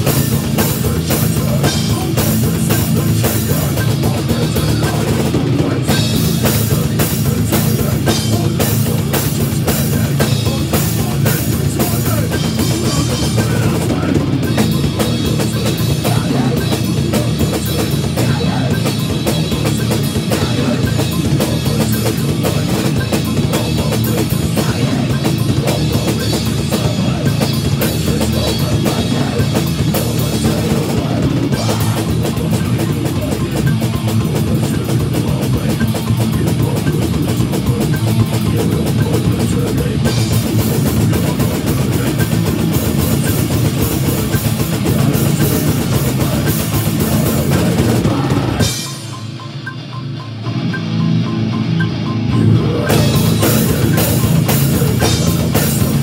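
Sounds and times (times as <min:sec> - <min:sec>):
bass guitar: 0:00.0 - 0:56.0
distorted electric guitar: 0:00.0 - 0:56.0
heavy bass drum: 0:00.0 - 0:56.0
metal band playing live: 0:00.0 - 0:56.0.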